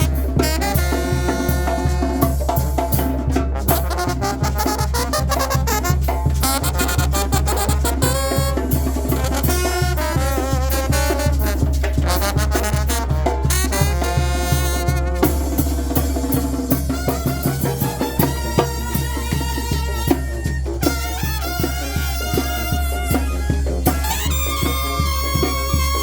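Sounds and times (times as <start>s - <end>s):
brass band melody: 0.0s - 26.0s
steady drum beat: 0.0s - 26.0s.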